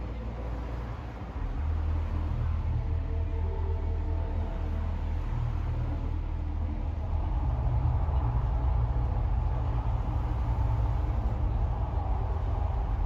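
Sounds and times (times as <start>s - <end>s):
deep volcano eruption rumble: 1.4s - 13.0s.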